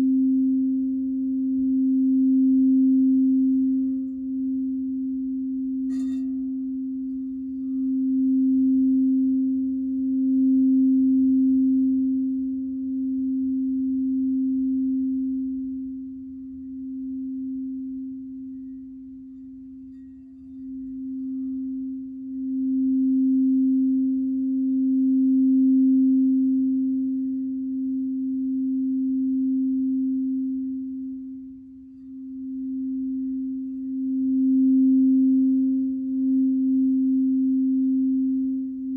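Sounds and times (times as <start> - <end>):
crystal singing bowl tone: 0.0 - 38.9.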